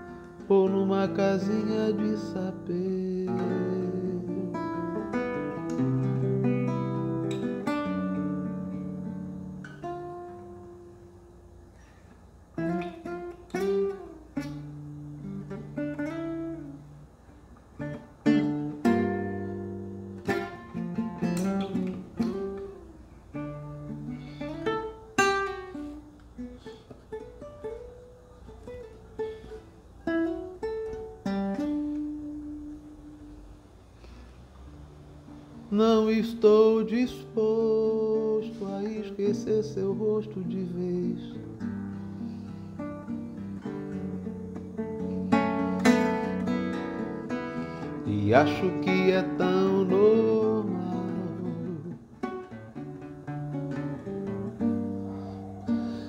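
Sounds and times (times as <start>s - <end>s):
acoustic guitar instrumental: 0.0s - 56.0s.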